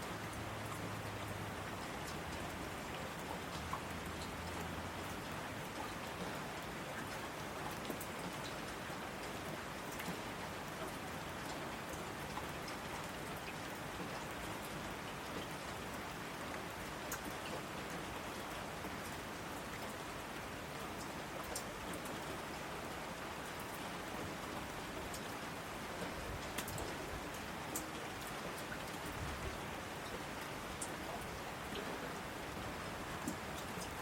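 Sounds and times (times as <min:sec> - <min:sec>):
raindrops ticking on a surface: 0:00.0 - 0:34.0
steady rain hiss: 0:00.0 - 0:34.0.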